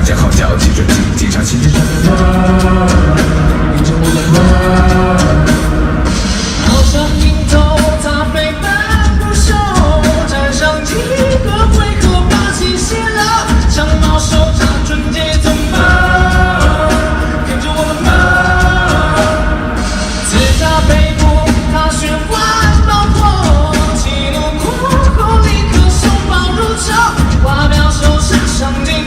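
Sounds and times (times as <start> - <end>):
live pop rock band: 0.0 - 29.0
man singing: 0.0 - 29.0.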